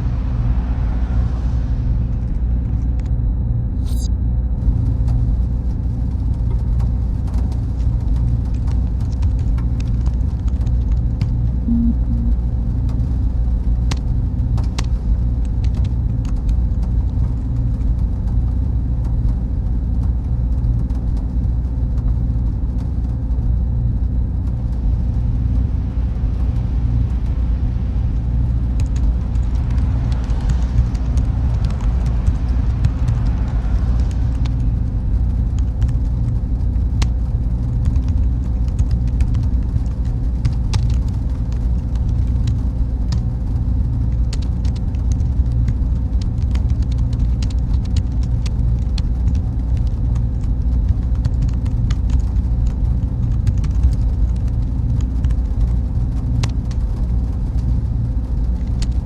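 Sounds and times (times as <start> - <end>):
faint steady hum: 0.0 - 59.0
server machinery rumble: 0.0 - 59.0.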